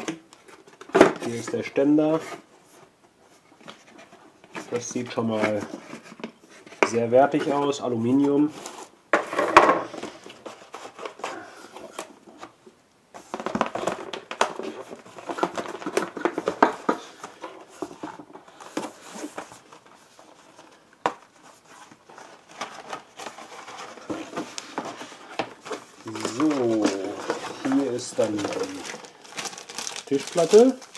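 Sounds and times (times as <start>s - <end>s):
cardboard packaging rustling: 0.0s - 30.9s.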